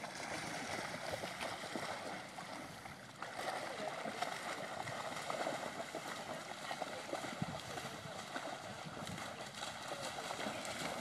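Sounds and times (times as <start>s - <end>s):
dogs splashing through water: 0.0s - 11.0s.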